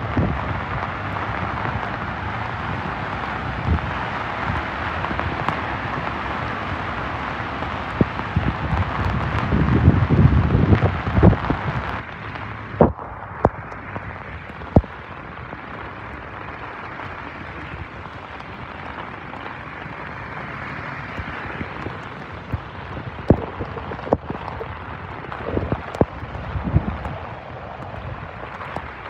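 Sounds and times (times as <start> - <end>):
heavy rain on wet street: 0.0 - 29.0.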